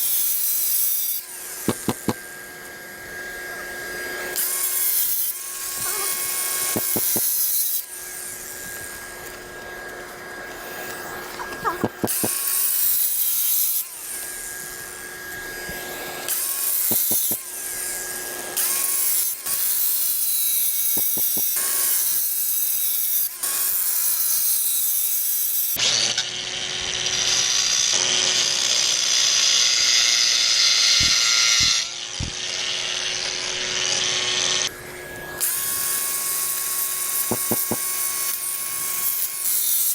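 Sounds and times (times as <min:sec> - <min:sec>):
angle grinder cutting concrete: 0:00.0 - 0:39.9.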